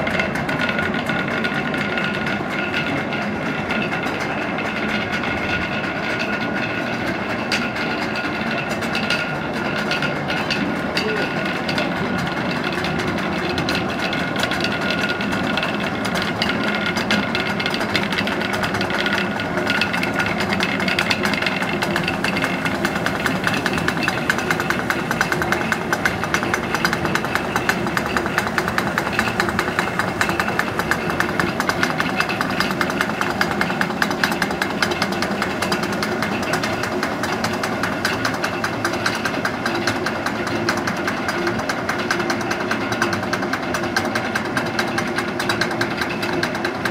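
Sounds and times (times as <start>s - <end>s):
stone mill grinding clatter: 0.0s - 46.9s.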